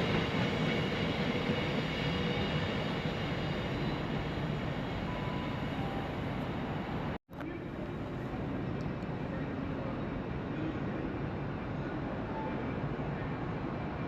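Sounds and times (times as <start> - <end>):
train rumbling: 0.0 - 12.5.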